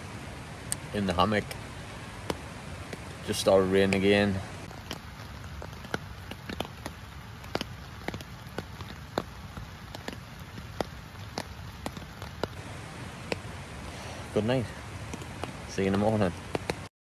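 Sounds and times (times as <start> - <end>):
raindrops tapping on shelter: 0.0 - 16.9
steady rain hiss: 0.0 - 16.9.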